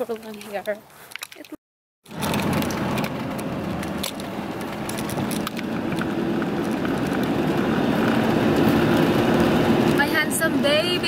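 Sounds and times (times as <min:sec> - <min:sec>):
car cabin road noise: 0:02.1 - 0:11.0.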